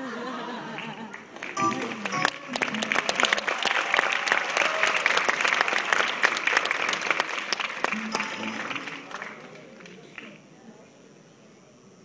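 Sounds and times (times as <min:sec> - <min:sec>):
audience applauding: 0:00.4 - 0:10.4.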